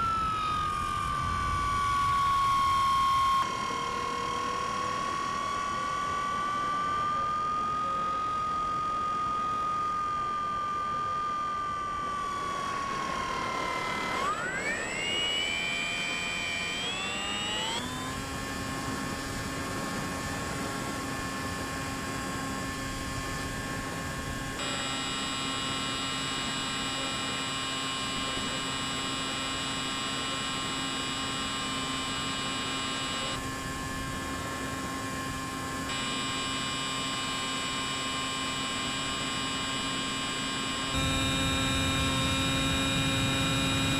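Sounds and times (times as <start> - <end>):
rc plane electric motor whining: 0.0 - 43.9.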